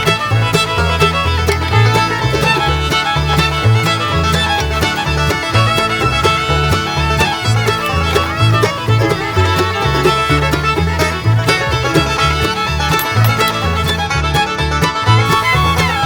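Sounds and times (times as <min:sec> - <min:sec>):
bluegrass fiddle and banjo music: 0:00.0 - 0:16.0.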